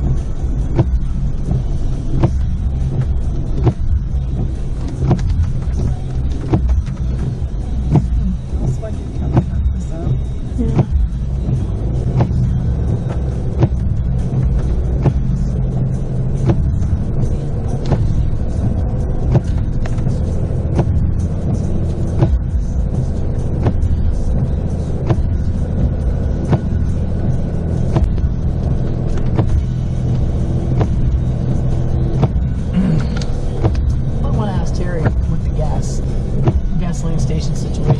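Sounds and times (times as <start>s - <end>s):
motor vehicle rumbling: 0.0s - 37.9s.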